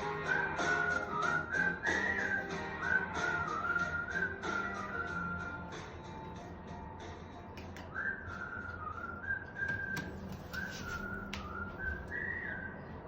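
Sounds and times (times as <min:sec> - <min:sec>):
person whistling a melody: 0:00.0 - 0:05.9, 0:07.8 - 0:13.0.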